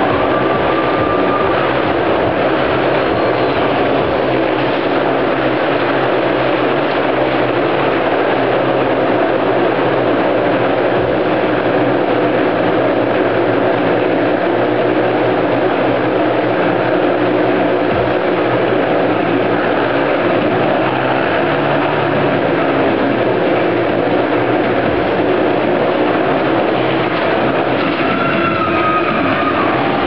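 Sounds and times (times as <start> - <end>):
motorcycle engines droning: 0.0 - 30.0.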